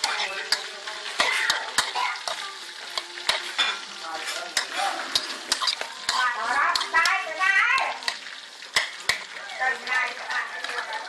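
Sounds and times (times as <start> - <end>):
utensil scraping a pan: 0.0 - 9.4
food sizzling in hot oil: 0.0 - 11.0.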